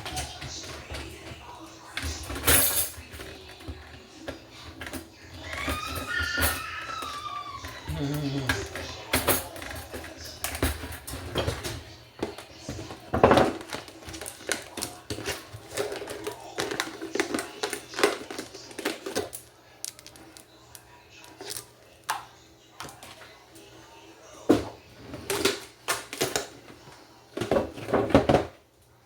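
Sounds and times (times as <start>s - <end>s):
dishes and utensils clattering: 0.0s - 23.3s, 24.4s - 28.6s.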